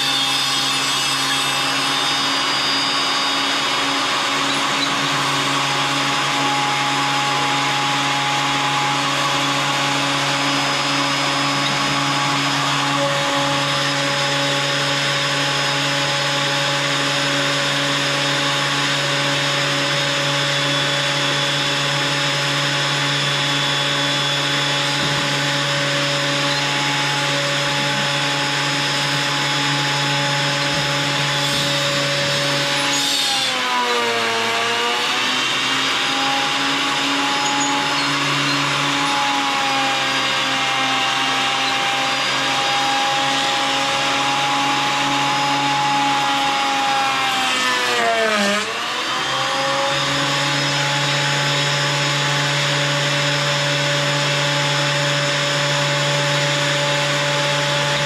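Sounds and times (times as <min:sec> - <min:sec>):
thickness planer motor whine: 0:00.0 - 0:58.0.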